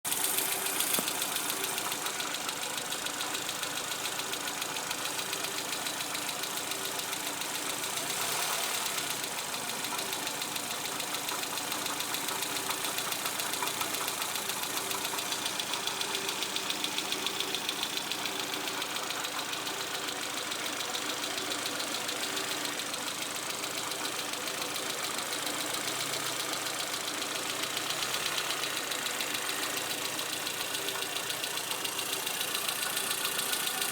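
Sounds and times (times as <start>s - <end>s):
car engine idling: 0.1s - 33.9s
rapid engine ticking: 0.1s - 33.9s.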